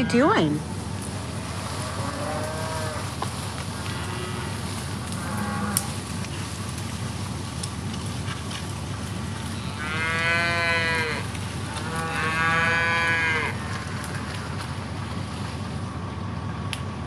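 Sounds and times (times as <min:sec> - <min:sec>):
cattle mooing: 0:00.0 - 0:14.8
low steady rumble: 0:00.0 - 0:17.0.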